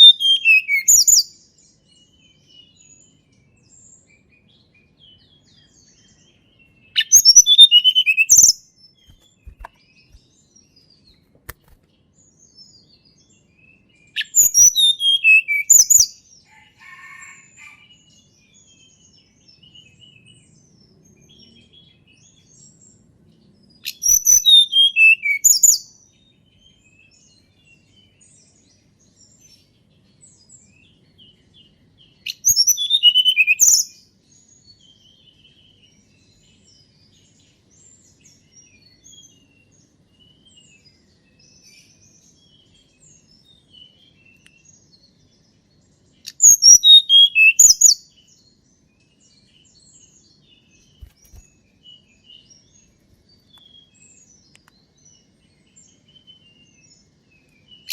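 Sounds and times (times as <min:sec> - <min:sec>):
faint chirps of small birds: 0:00.0 - 0:57.9
songbird singing: 0:00.0 - 0:57.9.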